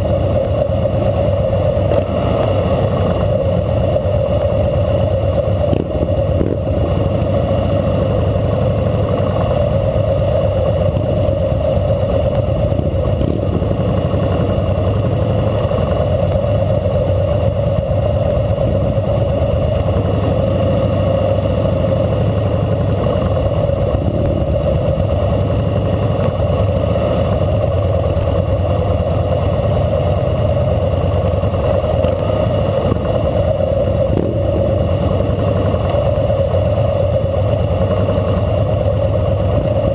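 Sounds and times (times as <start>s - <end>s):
motorcycle engine running steadily: 0.0s - 39.9s
surrounding motorcycle engines: 0.0s - 39.9s.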